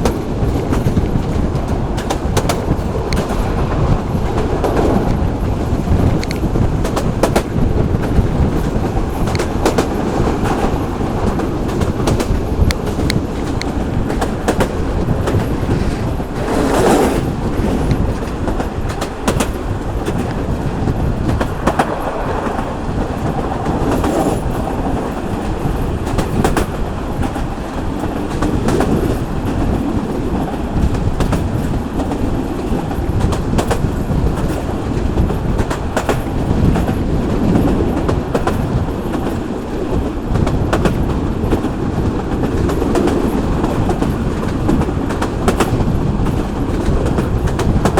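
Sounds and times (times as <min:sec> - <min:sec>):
train rumbling: 0:00.0 - 0:47.9
wheels clicking over rail joints: 0:00.0 - 0:47.9.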